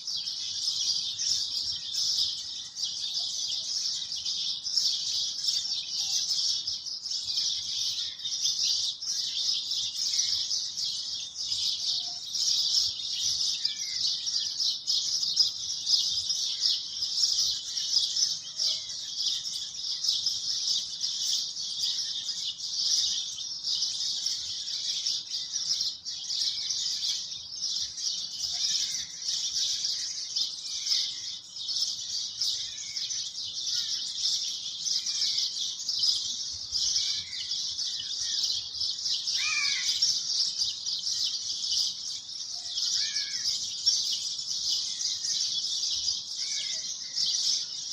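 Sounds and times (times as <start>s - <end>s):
high chirping birds chorus: 0.0s - 47.9s.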